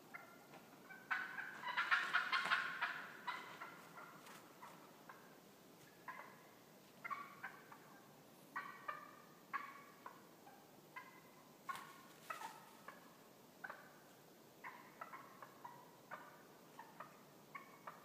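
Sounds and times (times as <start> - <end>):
wild turkeys calling: 0.0 - 18.0.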